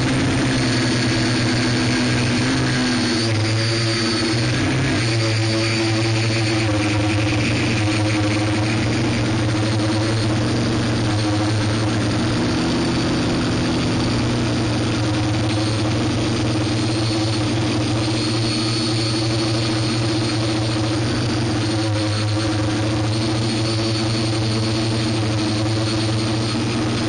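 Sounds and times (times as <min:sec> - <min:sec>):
model aircraft motor droning: 0:00.0 - 0:27.0.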